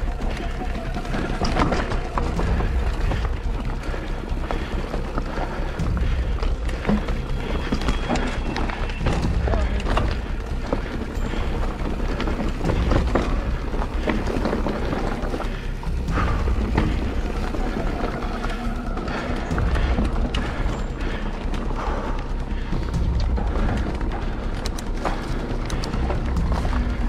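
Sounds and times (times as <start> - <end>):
background music: 0.0 - 27.0
bike rattling and clicking: 0.0 - 27.0.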